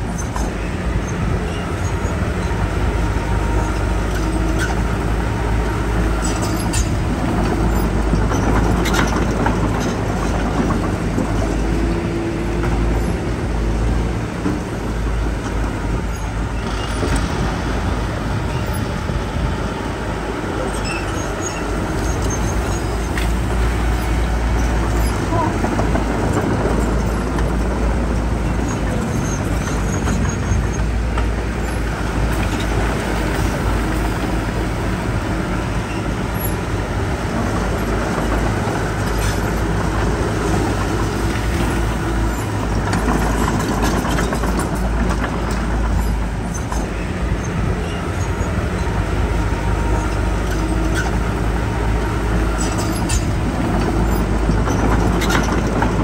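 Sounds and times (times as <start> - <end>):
diesel earthmoving machinery rumbling: 0.0 - 56.0.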